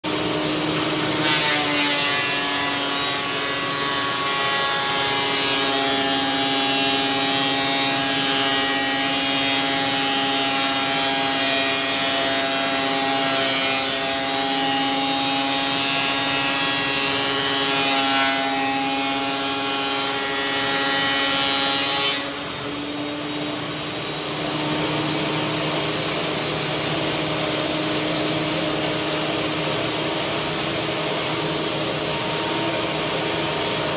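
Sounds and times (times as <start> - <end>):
thickness planer cutting wood: 0.0 - 33.9.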